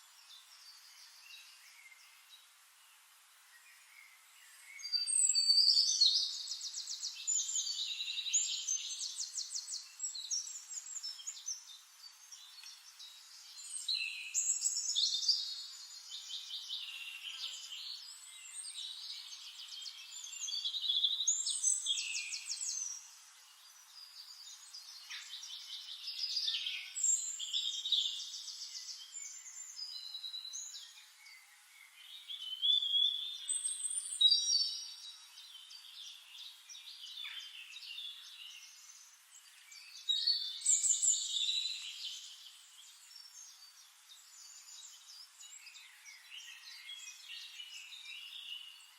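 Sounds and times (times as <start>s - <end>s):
songbirds singing trills and whistles: 0.0s - 48.9s.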